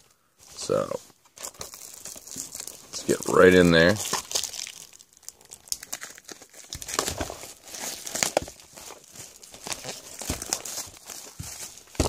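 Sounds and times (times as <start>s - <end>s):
plastic shrink-wrap crinkling and tearing: 0.6s - 12.0s.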